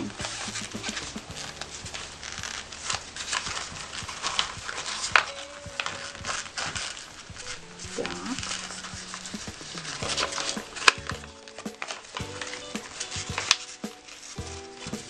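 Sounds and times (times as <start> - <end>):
paper crinkling: 0.0 - 15.0
quiet background music: 0.0 - 15.0.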